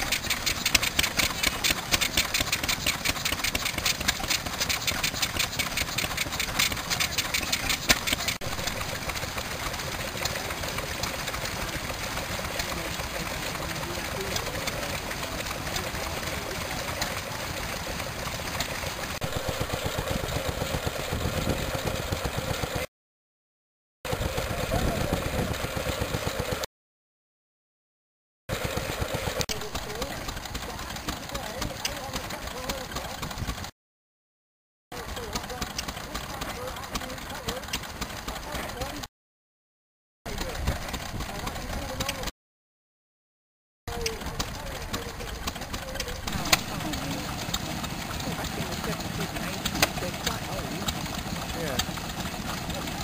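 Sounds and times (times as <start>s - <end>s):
stationary engine exhaust beat: 0.0s - 22.9s, 24.1s - 26.7s, 28.5s - 33.7s, 34.9s - 39.1s, 43.9s - 53.0s.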